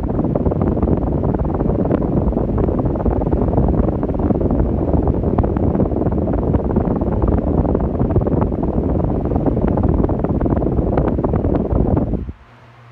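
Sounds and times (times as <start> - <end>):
electric fan airflow rushing: 0.0 - 12.9.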